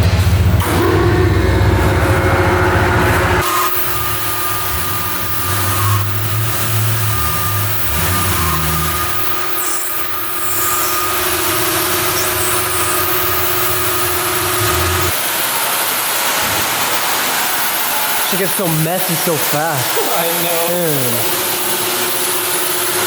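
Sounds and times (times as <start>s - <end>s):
lathe motor whining: 0.6s - 23.0s.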